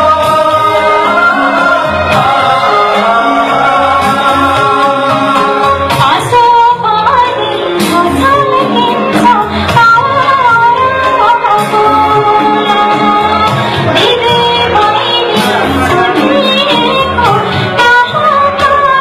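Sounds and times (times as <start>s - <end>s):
instrumental backing music: 0.0s - 19.0s
woman singing into a microphone: 0.0s - 19.0s.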